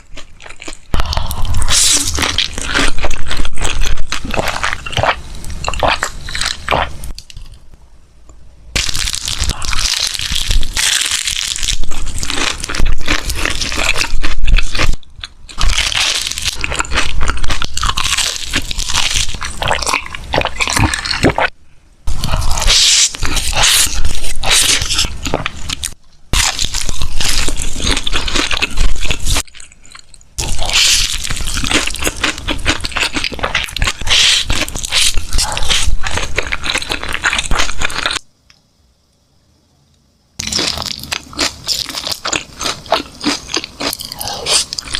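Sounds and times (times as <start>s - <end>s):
crunching and chewing crispy chicken: 0.0s - 5.2s, 8.8s - 38.3s, 40.4s - 44.9s.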